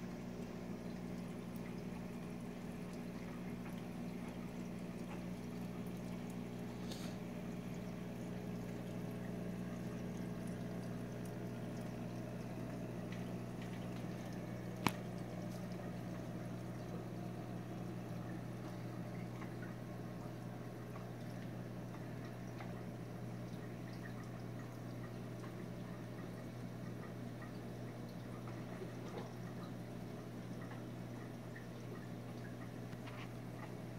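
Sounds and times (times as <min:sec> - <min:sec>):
low equipment hum: 0:00.0 - 0:33.9
water trickling and pouring: 0:00.1 - 0:33.9.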